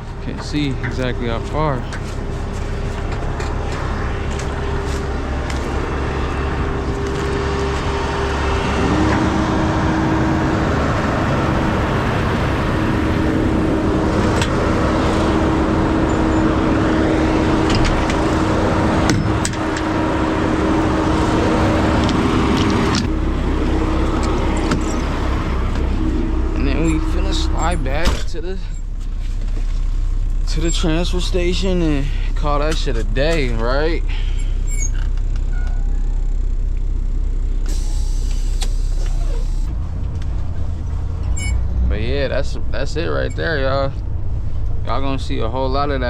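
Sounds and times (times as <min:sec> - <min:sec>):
truck diesel engine under load: 0:00.0 - 0:46.0.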